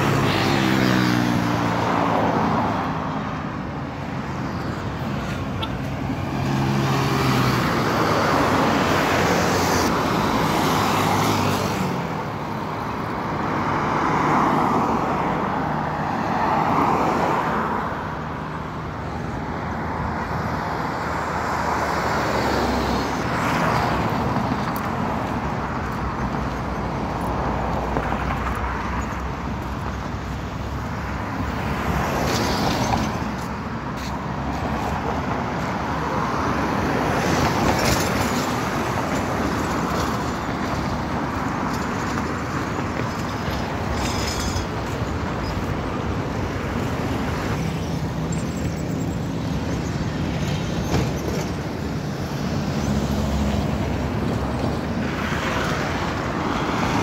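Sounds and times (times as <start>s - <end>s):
continuous road noise: 0.0s - 57.0s
vehicles passing close by: 0.0s - 57.0s.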